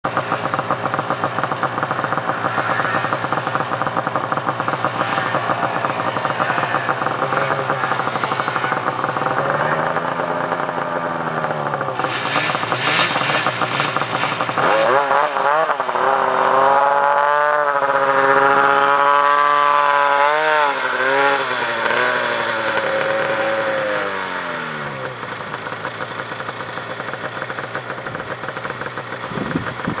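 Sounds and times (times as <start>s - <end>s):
snowmobile engines running: 0.0s - 30.0s.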